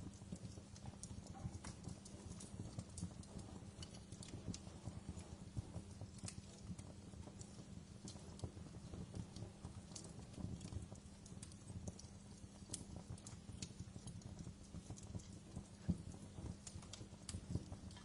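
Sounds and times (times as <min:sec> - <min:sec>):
fire crackling and popping: 0:00.0 - 0:18.0
wood fire rumbling: 0:00.0 - 0:18.0.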